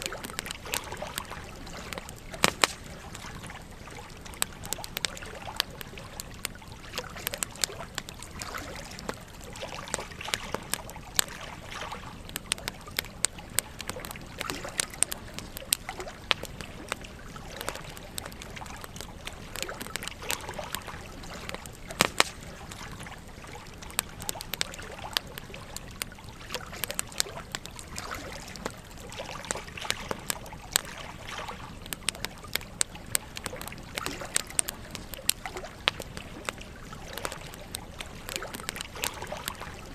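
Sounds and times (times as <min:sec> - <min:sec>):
campfire wood crackling: 0:00.0 - 0:39.9.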